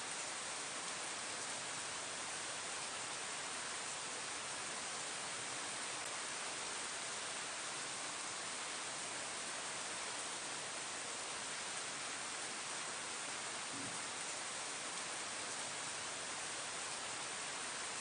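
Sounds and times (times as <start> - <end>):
rain falling on leaves: 0.0 - 18.0.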